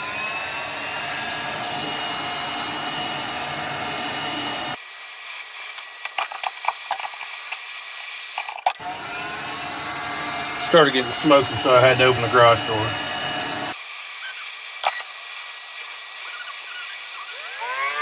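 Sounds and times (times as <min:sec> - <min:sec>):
heat gun blowing: 0:00.0 - 0:18.0.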